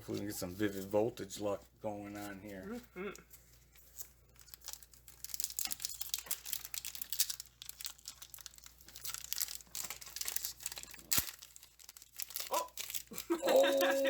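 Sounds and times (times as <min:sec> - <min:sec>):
foil wrapper crinkling and tearing: 0:02.3 - 0:14.0.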